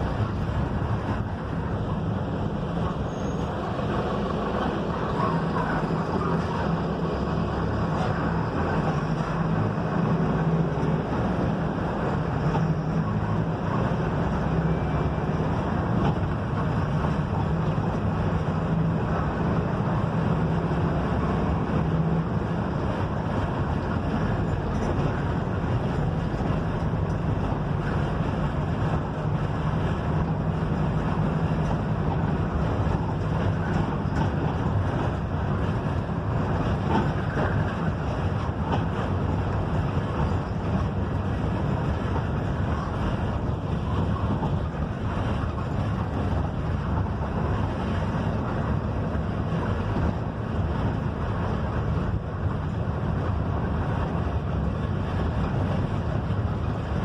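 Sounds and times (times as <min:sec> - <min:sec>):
bus diesel engine droning: 0:00.0 - 0:57.0
road and wind noise: 0:00.0 - 0:57.0.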